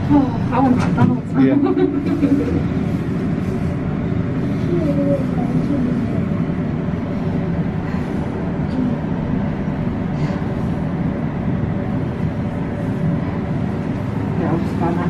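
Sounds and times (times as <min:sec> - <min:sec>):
constant hum: 0:00.0 - 0:15.0
lift mechanical rumble: 0:00.0 - 0:15.0.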